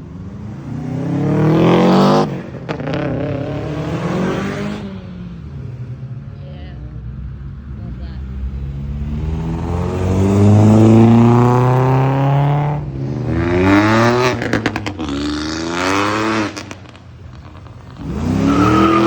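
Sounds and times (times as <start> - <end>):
car engine accelerating hard: 0.0 - 5.6, 7.4 - 19.0.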